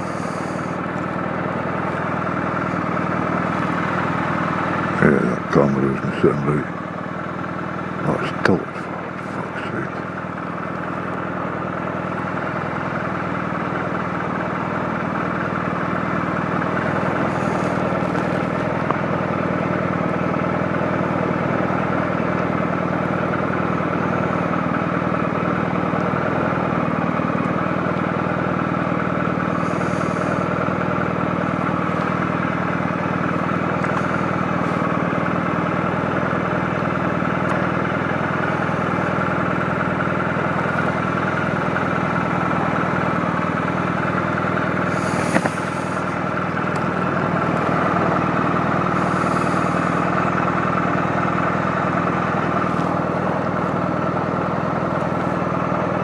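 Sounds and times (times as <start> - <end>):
scooter engine running: 0.0 - 56.0.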